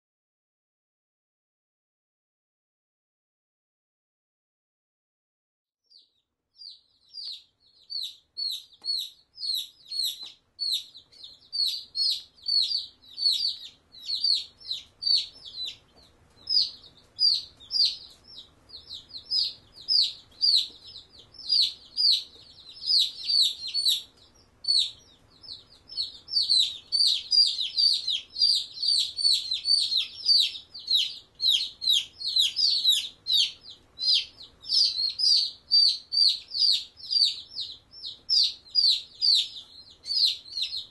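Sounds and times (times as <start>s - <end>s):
chicks peeping: 5.9s - 40.9s.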